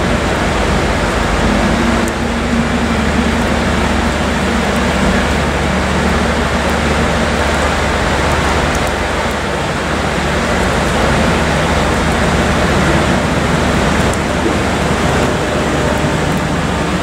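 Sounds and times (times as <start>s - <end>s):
low even hum: 0.0s - 17.0s
rain falling on platform: 0.0s - 17.0s
train wheels rumbling on rails: 0.0s - 17.0s.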